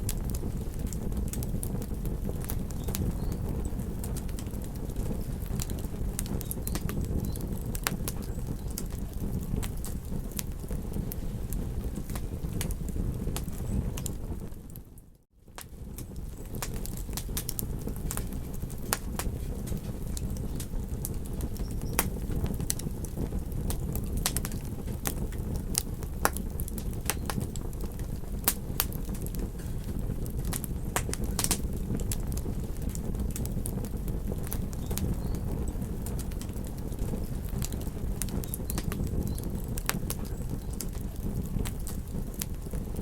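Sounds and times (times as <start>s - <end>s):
campfire crackling and popping: 0.0s - 43.0s
steady low rumble: 0.0s - 43.0s.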